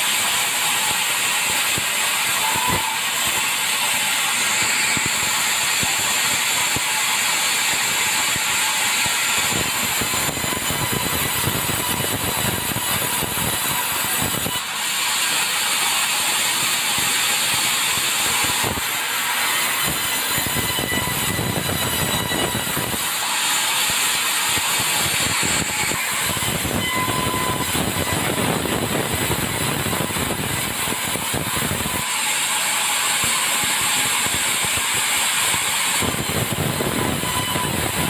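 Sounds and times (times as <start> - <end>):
sawmill saw cutting timber: 0.0 - 38.0.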